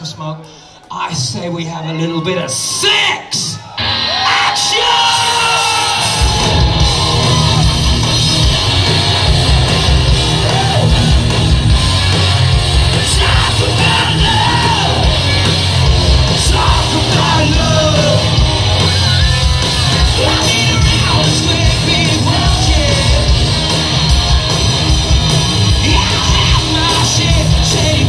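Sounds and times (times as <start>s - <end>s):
hard rock band playing: 3.8s - 28.0s
high sliding guitar notes: 3.8s - 28.0s.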